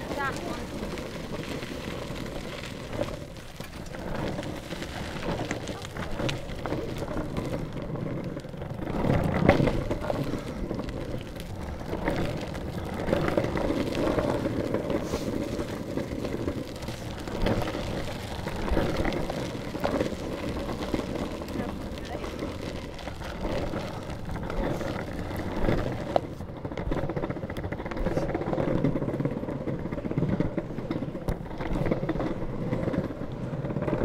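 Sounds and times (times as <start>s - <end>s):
longboard wheels rolling on grit: 0.0s - 34.0s.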